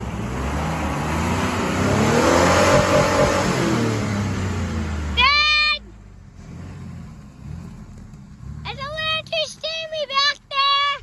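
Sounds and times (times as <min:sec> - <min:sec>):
vehicle engine revving: 0:00.0 - 0:09.3.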